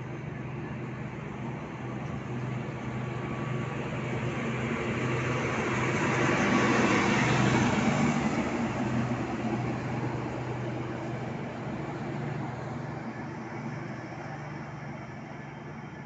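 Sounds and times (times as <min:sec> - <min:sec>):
train coaches rolling on rails: 0:00.0 - 0:16.0.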